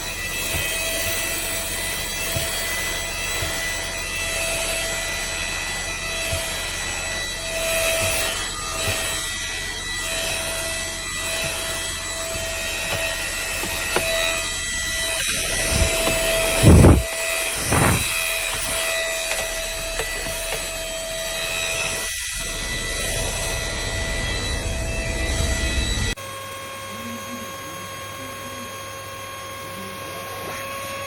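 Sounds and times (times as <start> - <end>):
handheld vacuum cleaner running: 0.0 - 31.0.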